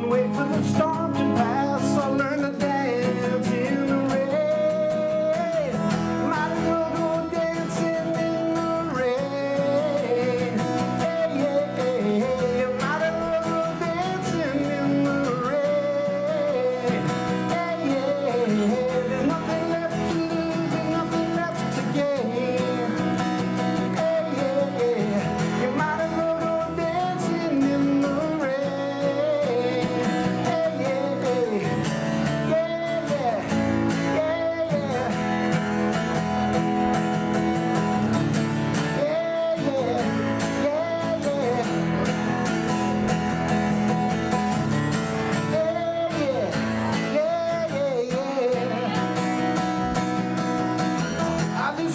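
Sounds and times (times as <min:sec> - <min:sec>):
acoustic guitar strumming: 0:00.0 - 0:51.9
man singing: 0:00.0 - 0:51.9.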